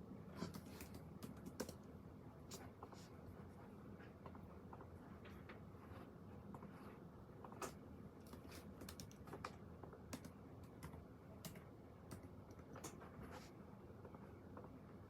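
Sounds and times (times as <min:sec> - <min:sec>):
faint clicks and taps at desk: 0:00.4 - 0:14.8.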